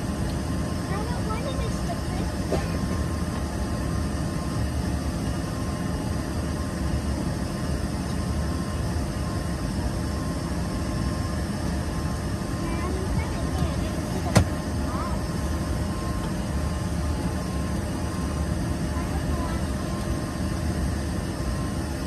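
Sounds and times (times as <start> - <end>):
low hum and rush of cabin air: 0.0 - 22.0.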